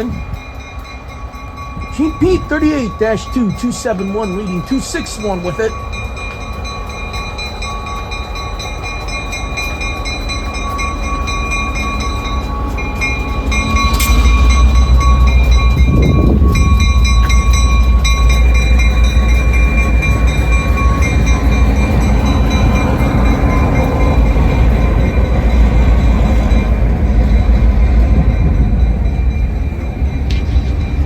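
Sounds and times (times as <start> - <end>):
freight train locomotives rumbling: 0.0 - 31.0.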